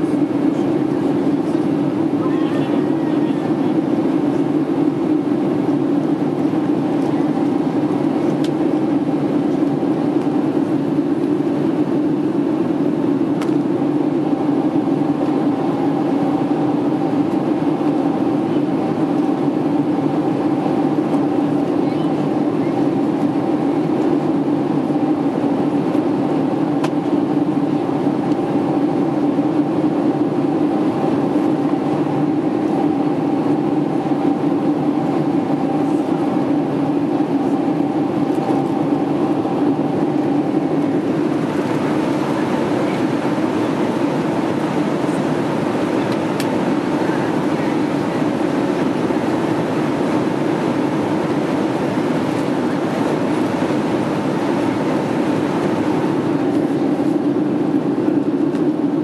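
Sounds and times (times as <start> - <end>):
airflow rush: 0.0 - 59.0
airliner engine drone: 0.0 - 59.0.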